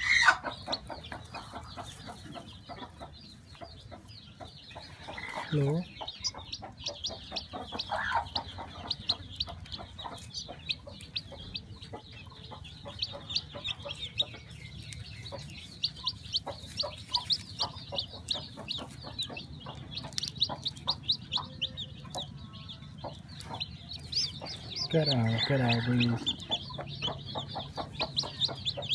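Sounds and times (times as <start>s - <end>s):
chick peeping: 0.0s - 28.9s.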